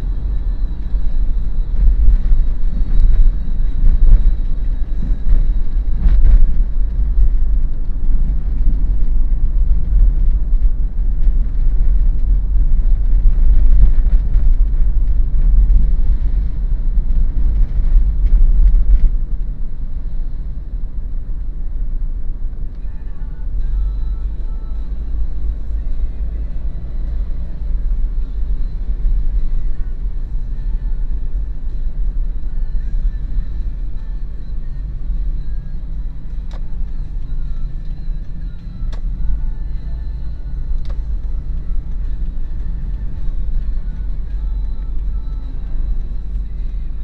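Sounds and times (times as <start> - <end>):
road and engine rumble: 0.0 - 47.0.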